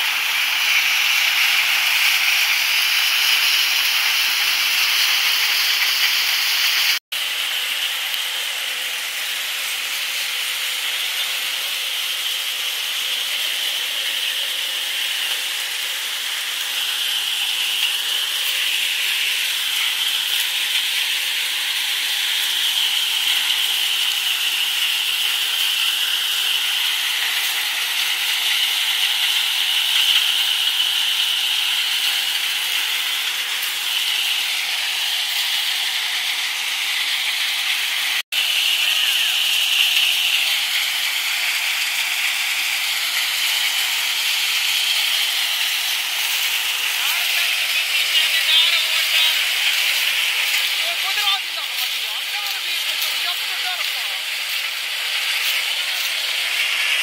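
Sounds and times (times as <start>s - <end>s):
thresher hissing rush: 0.0s - 57.0s.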